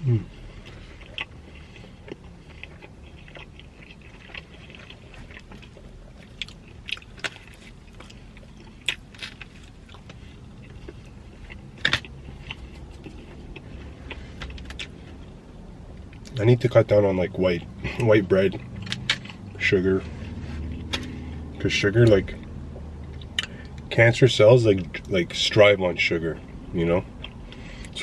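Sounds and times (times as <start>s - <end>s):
person chewing and crunching: 0.0s - 23.9s, 26.4s - 28.0s.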